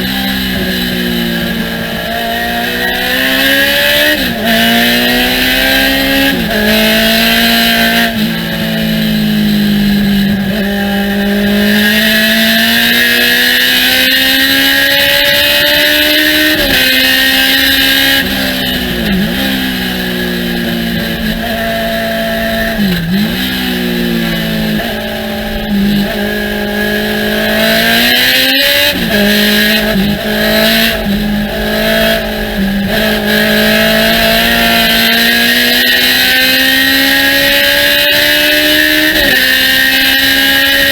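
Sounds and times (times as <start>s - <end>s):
race car engine at full throttle: 0.0s - 40.9s.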